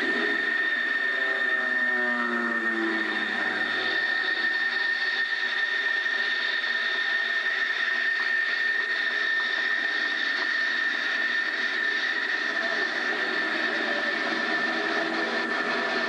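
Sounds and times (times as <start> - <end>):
high engine whine: 0.0 - 16.0
jet engines at taxi power: 0.0 - 16.0.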